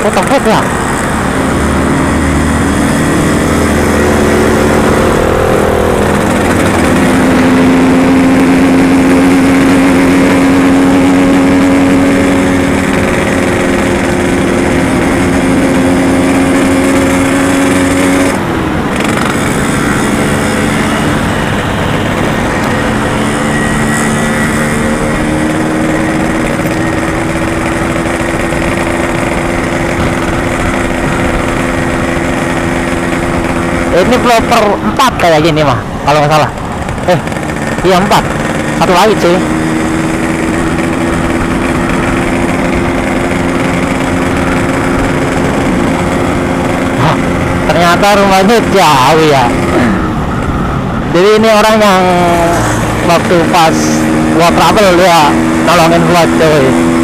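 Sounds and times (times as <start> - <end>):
two-stroke motorcycle engine running: 0.0 - 57.0.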